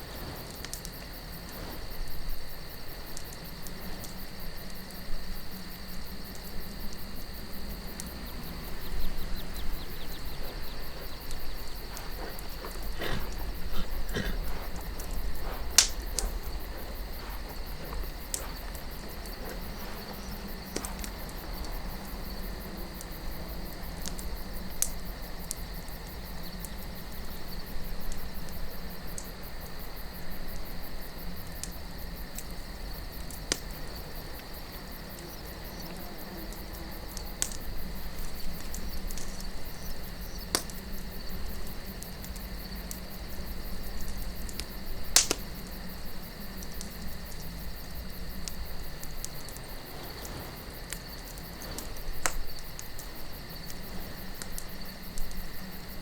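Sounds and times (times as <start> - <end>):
campfire wood crackling: 0.0 - 56.0
crickets chirping: 0.0 - 56.0
low wind rumble: 0.0 - 56.0.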